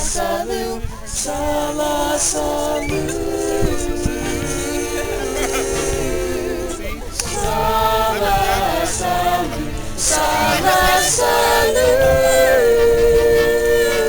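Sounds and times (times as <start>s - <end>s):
group singing unaccompanied: 0.0s - 14.0s.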